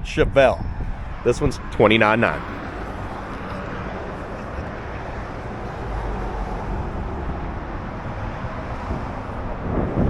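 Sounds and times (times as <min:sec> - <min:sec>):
low rumble of vehicles: 0:00.0 - 0:10.0.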